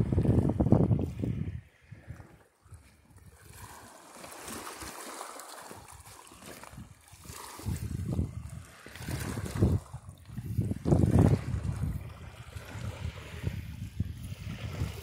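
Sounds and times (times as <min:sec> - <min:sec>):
wind buffeting microphone: 0:00.0 - 0:03.7, 0:06.5 - 0:15.0
water lapping against rocky shore: 0:00.0 - 0:15.0.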